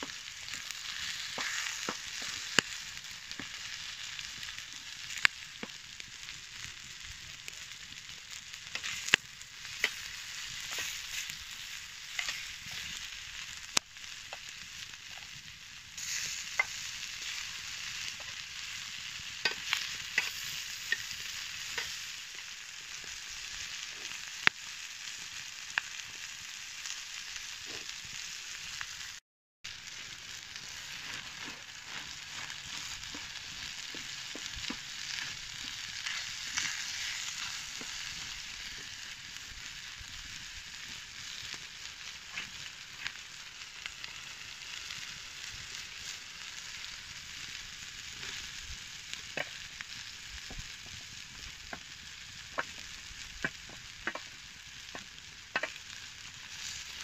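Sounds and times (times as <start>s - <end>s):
food frying hiss: 0.0s - 57.0s.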